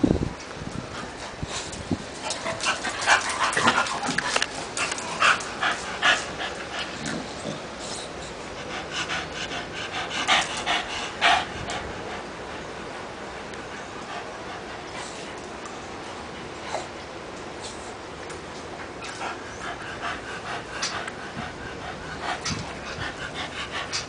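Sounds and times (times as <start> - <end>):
dogs panting: 0.9 - 17.1, 18.9 - 24.0.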